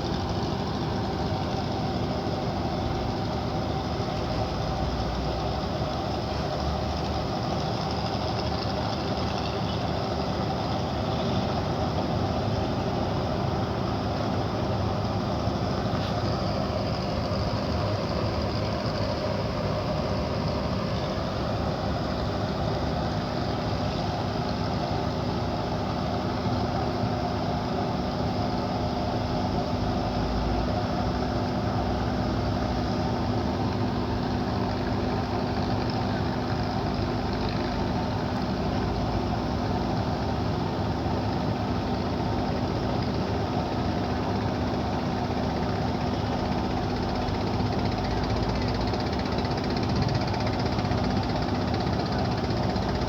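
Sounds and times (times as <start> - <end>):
ship engine droning: 0.0 - 53.0.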